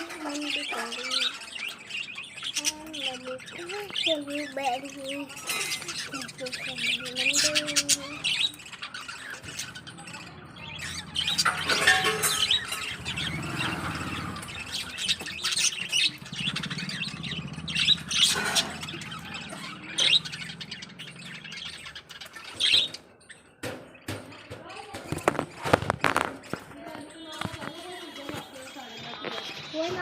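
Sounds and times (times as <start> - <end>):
cockatiels chirping: 0.0 - 30.0.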